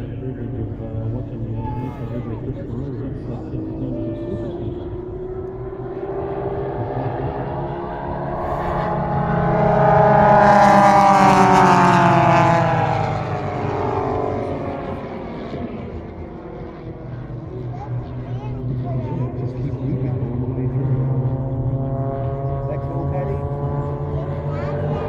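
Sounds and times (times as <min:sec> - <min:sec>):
propeller planes droning past: 0:00.0 - 0:25.0.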